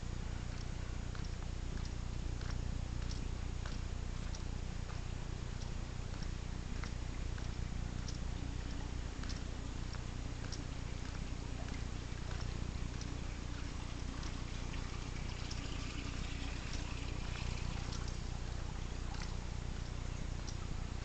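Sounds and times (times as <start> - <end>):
faint ticks: 0.0 - 21.0
steady low hum: 0.0 - 21.0.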